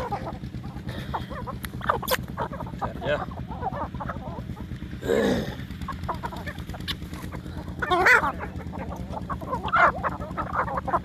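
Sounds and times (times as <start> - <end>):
chicken squawks: 0.0 - 4.8, 5.6 - 11.0
chickens clucking: 0.0 - 11.0
low steady hum: 0.0 - 11.0.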